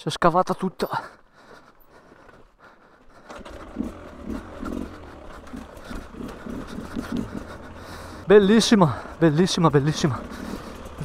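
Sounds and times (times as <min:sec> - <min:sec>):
two-stroke engine running: 0:01.4 - 0:11.0.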